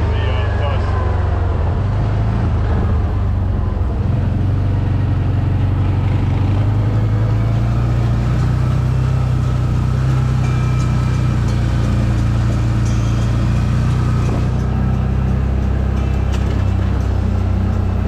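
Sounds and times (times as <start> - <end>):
atv engine droning: 0.0 - 18.0.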